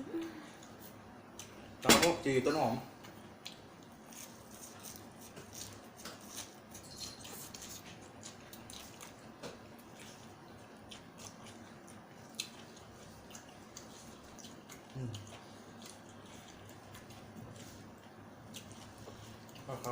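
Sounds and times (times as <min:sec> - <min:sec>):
wet chewing and lip-smacking: 0:03.1 - 0:19.9.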